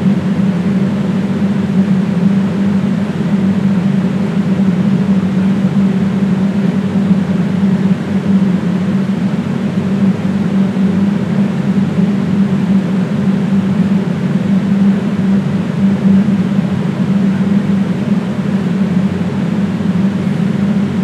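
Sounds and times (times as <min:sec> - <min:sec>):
loud low hum: 0:00.0 - 0:21.0.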